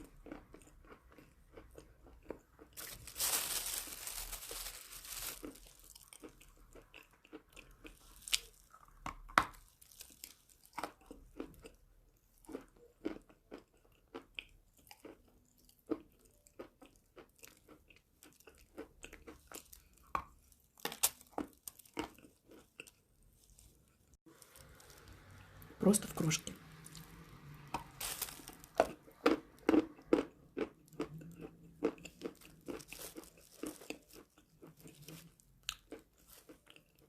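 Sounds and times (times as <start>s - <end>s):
chewing hard chalk crunching: 0.0s - 11.8s, 12.5s - 23.6s, 26.8s - 37.0s.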